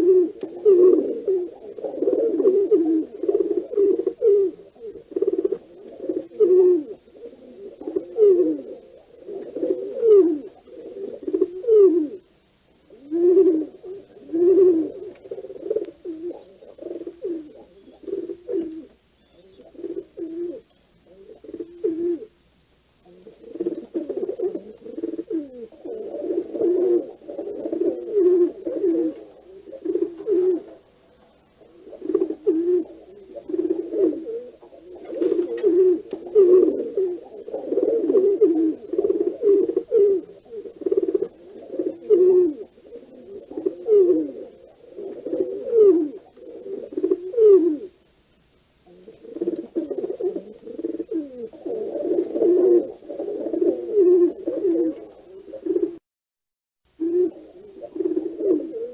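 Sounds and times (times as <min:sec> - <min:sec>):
pigeons cooing: 0:00.0 - 0:22.4, 0:23.0 - 0:48.2, 0:48.8 - 0:56.0, 0:57.0 - 0:58.9.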